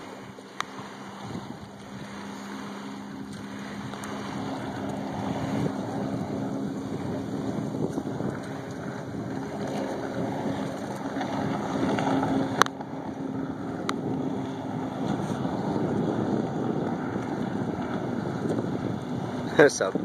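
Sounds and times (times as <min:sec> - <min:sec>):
distant jet ski engine drone: 0:00.0 - 0:20.0
wind on microphone: 0:00.0 - 0:20.0.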